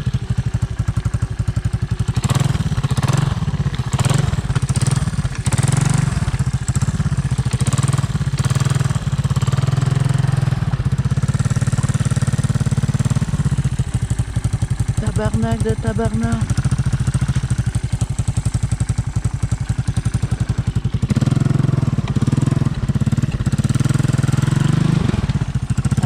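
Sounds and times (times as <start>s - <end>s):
single-cylinder engine running: 0.0s - 26.0s.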